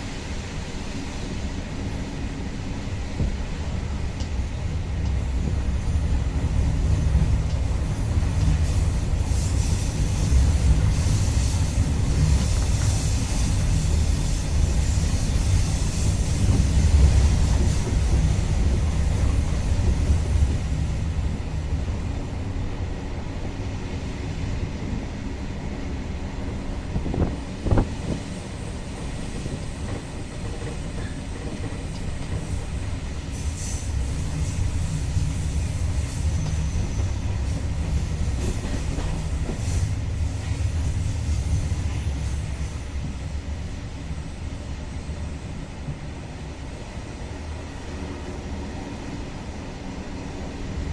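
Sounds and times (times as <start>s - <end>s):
train rumbling on track: 0.0s - 50.9s.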